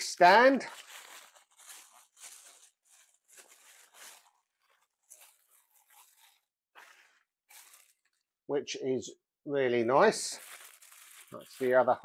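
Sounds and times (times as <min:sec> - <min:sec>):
plastic wrap crinkling: 0:00.0 - 0:08.4, 0:10.1 - 0:12.0.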